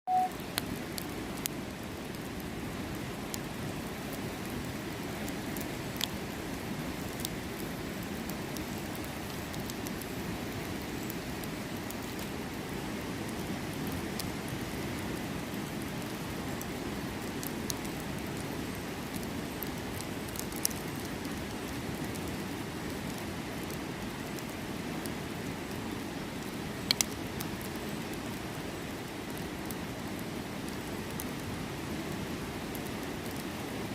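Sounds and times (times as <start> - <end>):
campfire crackling and popping: 0.1 - 33.9.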